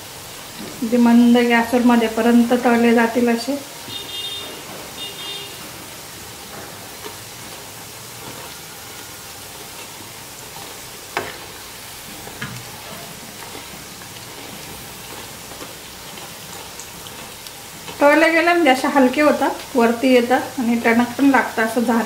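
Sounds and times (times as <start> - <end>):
dough sizzling in oil: 0.0 - 22.0
slotted spoon stirring: 3.9 - 21.8.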